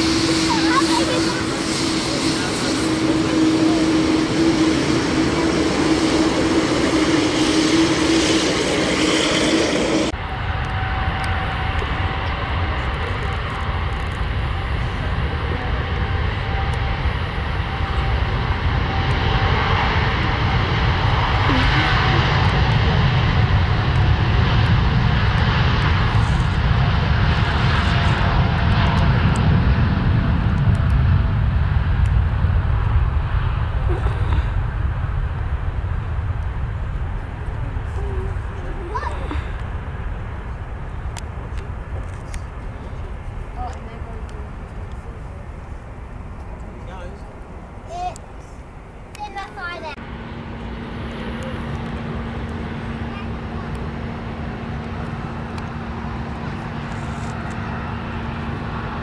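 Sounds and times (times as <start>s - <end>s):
deep jet engine rumble: 0.0s - 59.0s
jet engines whining: 0.0s - 59.0s.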